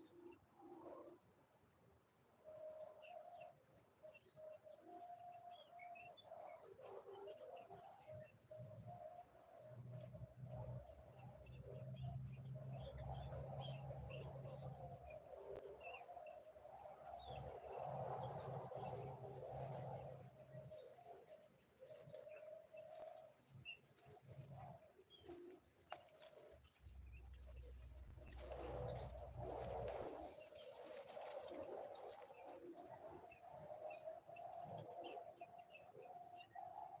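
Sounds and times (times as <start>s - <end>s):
high-pitched insect trill: 0.0s - 37.0s.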